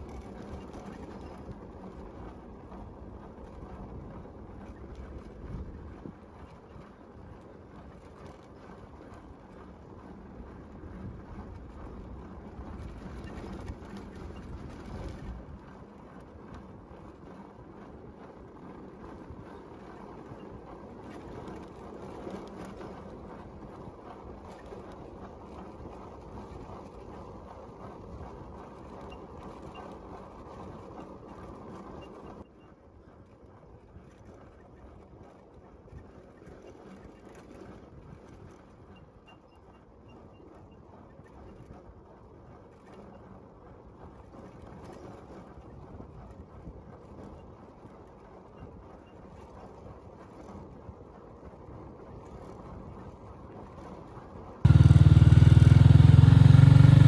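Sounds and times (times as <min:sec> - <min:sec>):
vehicle rumbling on dirt road: 0:00.0 - 0:57.0
wind noise on microphone: 0:00.0 - 0:57.0.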